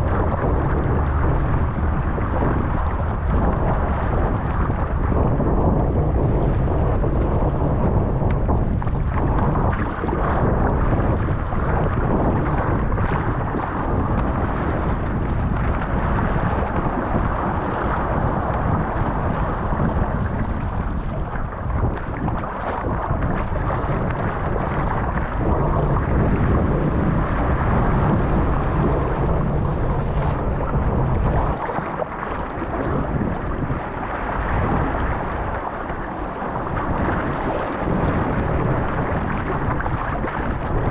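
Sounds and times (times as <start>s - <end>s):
rushing water and waves: 0.0s - 40.9s
wind buffeting microphone: 0.0s - 40.9s.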